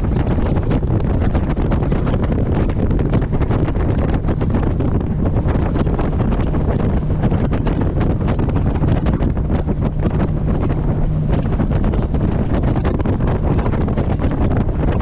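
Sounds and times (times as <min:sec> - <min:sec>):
boat engine humming: 0:00.0 - 0:15.0
water rushing along hull: 0:00.0 - 0:15.0
wind buffeting microphone: 0:00.0 - 0:15.0.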